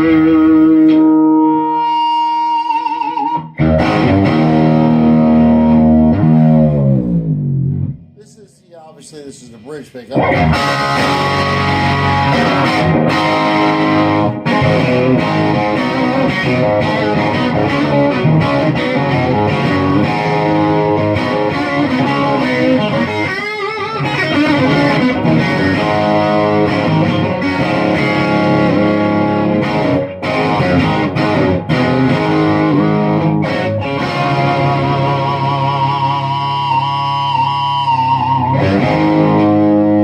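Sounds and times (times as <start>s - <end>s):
overdriven electric guitar: 0.0s - 8.2s, 10.1s - 40.0s.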